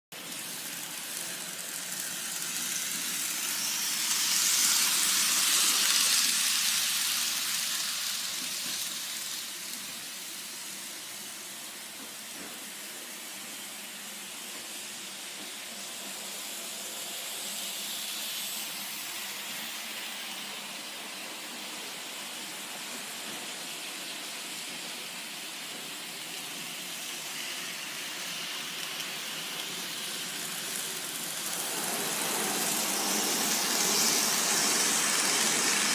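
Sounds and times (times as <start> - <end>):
model train hissing whir: 0.2 - 35.9.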